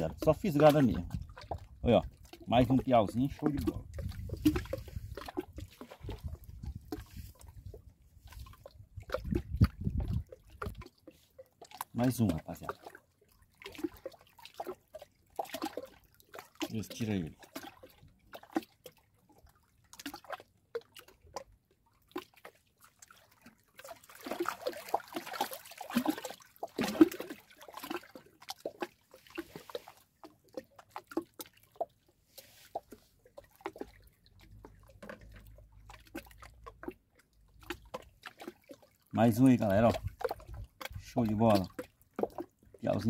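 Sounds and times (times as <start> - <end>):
water splashing around boat: 0.0 - 43.0.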